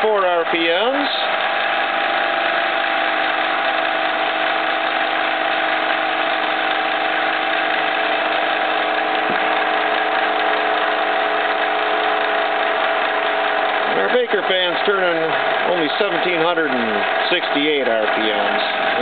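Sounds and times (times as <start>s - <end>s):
steam engine whirring: 0.0s - 19.0s.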